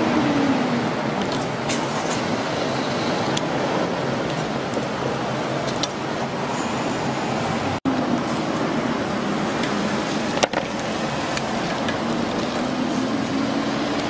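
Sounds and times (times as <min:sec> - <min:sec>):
passing traffic: 0:00.0 - 0:14.0.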